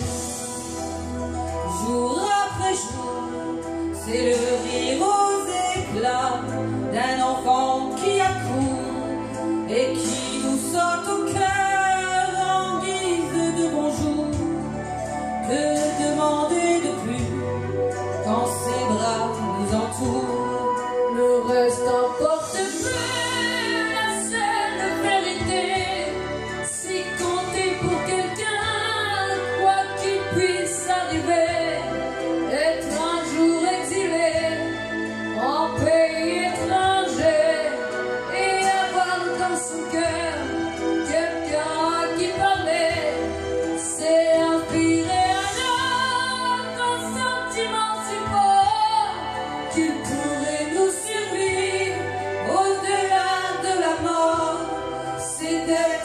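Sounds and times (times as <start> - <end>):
instrumental backing track: 0.0 - 56.0.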